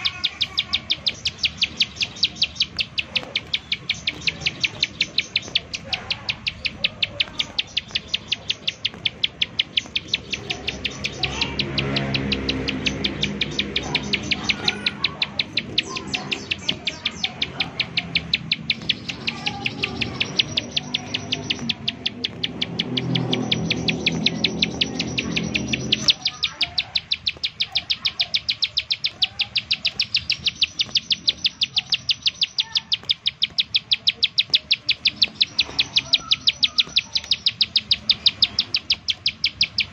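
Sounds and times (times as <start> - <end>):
prinia calling in rapid high notes: 0.0 - 39.9.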